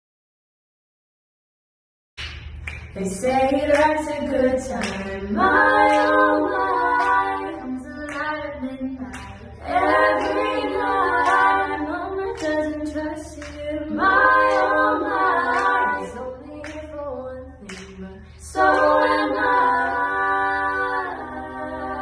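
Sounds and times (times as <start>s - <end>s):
girls singing a cappella: 2.9s - 22.0s.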